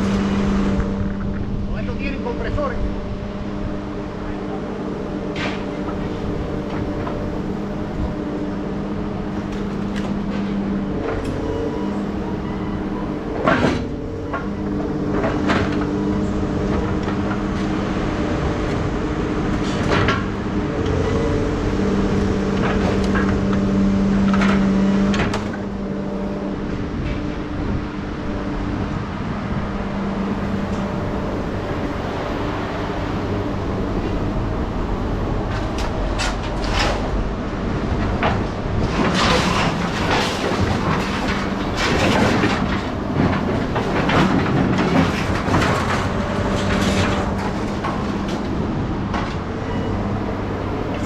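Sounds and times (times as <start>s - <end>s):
engine drone: 0.0s - 51.0s.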